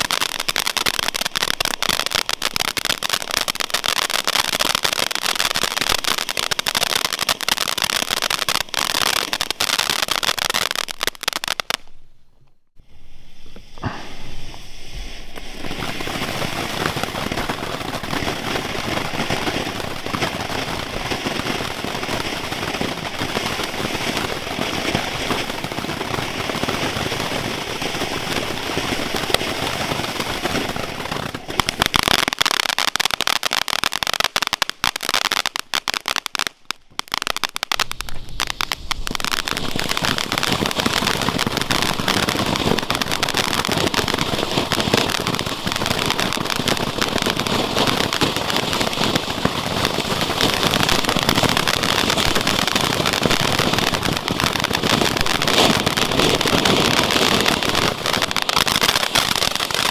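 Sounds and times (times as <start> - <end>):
firework fountain hissing: 0.0 - 11.9, 12.8 - 59.9
firework crackling: 0.0 - 12.0, 12.7 - 59.9.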